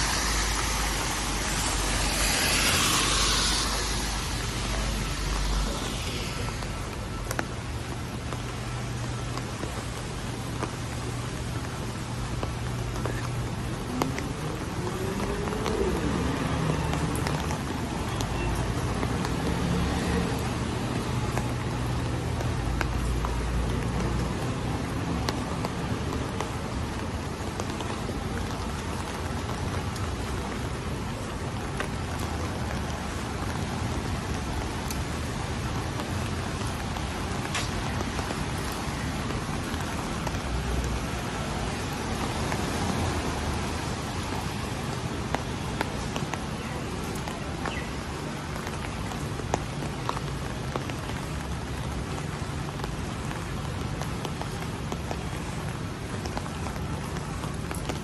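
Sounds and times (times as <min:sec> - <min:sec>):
rain hissing on streets: 0:00.0 - 0:58.0
traffic engines hum: 0:00.0 - 0:58.0.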